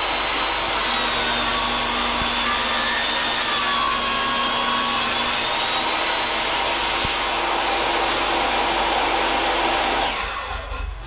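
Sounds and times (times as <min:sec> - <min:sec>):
power tool motor whining: 0:00.0 - 0:11.0.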